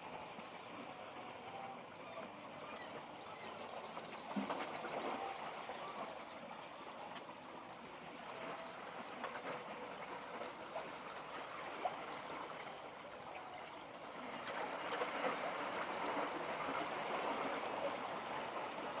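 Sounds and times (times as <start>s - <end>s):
seawater lapping among rocks: 0.0s - 19.0s.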